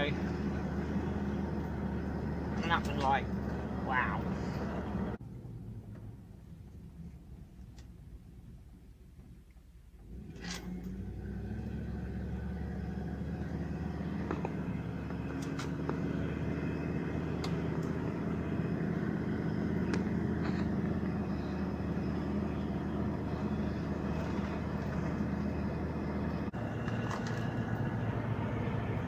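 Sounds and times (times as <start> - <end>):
pickup engine and road noise: 0.0 - 29.0.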